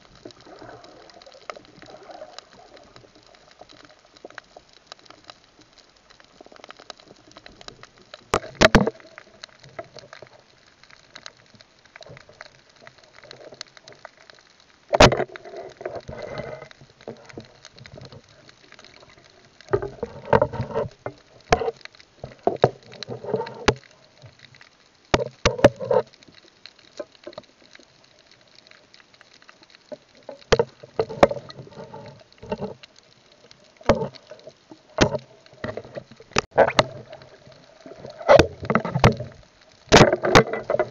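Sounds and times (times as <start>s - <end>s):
sharp clicks and knocks underwater: 0.0s - 40.9s
water bubbling and sloshing: 0.0s - 40.9s.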